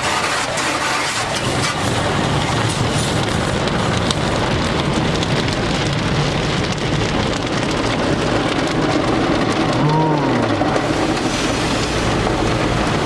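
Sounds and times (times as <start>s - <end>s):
water spray drumming on car: 0.0s - 13.0s.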